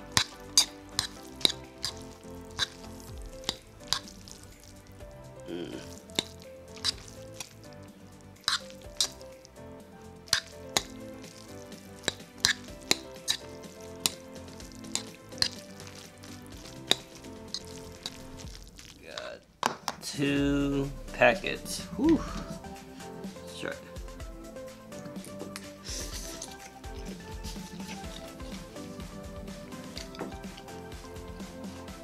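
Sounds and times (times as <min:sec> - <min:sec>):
wet sticky noodle sounds: 0:00.0 - 0:09.6, 0:10.2 - 0:19.5, 0:24.9 - 0:32.0.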